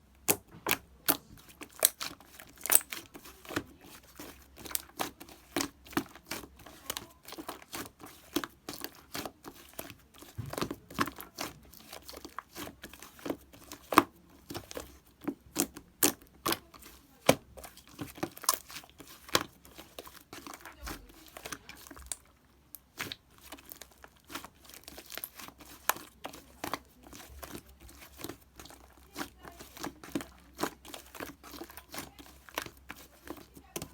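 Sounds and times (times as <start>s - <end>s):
slime squished by hand: 0.0s - 33.9s.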